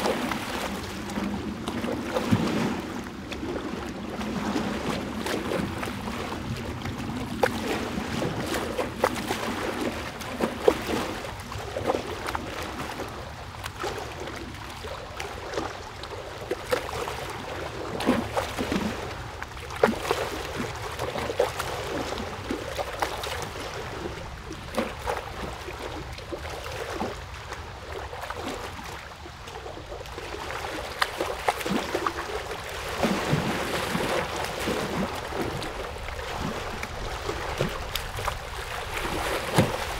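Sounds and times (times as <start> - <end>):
small water splashes: 0.0 - 39.9
water running and lapping: 0.0 - 39.9.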